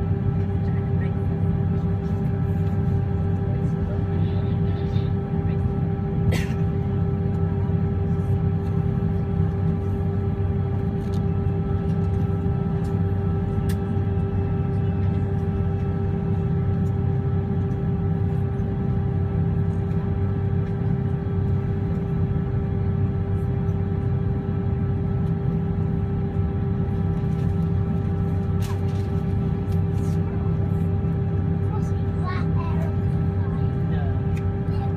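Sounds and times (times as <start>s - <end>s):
airliner cabin engine rumble: 0.0s - 34.9s
constant tonal hum: 0.0s - 34.9s.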